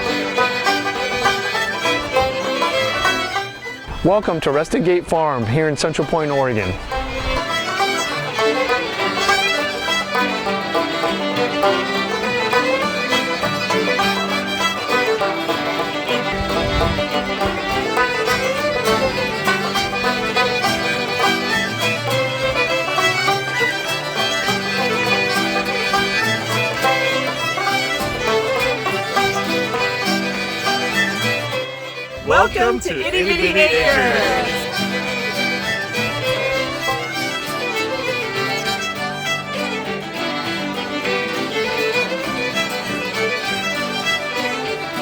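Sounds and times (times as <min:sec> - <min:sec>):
lively folk tune on fiddle: 0:00.0 - 0:32.2, 0:34.6 - 0:45.0.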